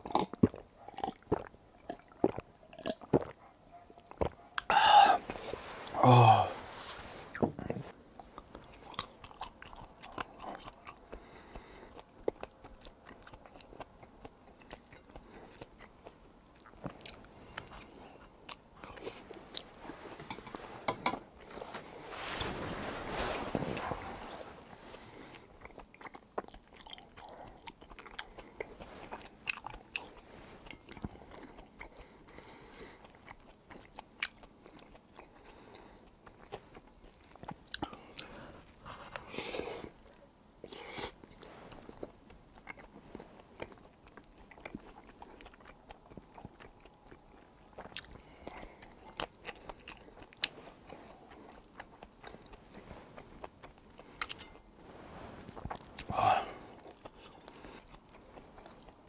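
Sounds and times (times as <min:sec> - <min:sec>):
close chewing and biting: 0:00.0 - 0:06.0, 0:07.2 - 0:22.0, 0:23.4 - 0:59.0.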